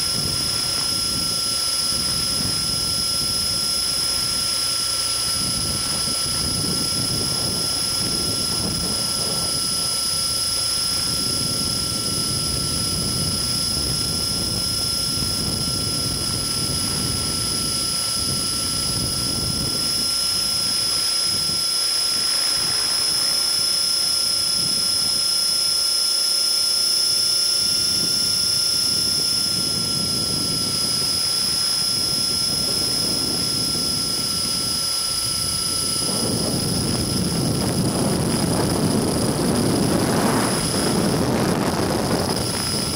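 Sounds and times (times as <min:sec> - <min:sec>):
high-pitched helicopter whine: 0:00.0 - 0:42.9
rotor and wind rushing: 0:00.0 - 0:42.9.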